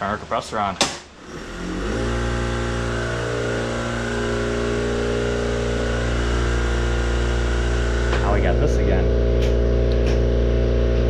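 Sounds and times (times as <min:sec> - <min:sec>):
air compressor motor running: 0:01.1 - 0:11.0.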